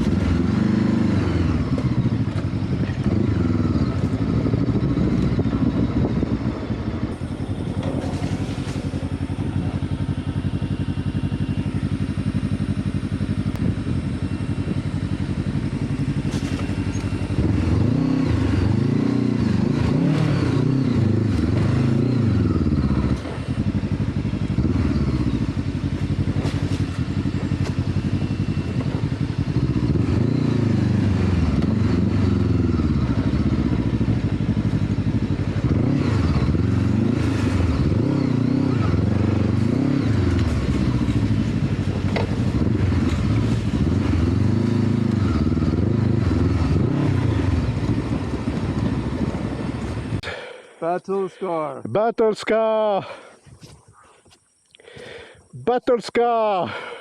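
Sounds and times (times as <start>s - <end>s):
motorcycle engine revving: 0.0s - 50.9s, 52.8s - 53.4s, 56.3s - 57.0s.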